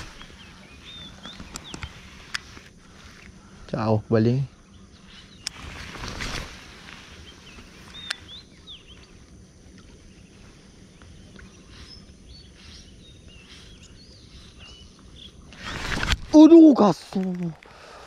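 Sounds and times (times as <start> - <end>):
birds chirping: 0.0 - 18.0
faint outdoor background noise: 0.0 - 18.0.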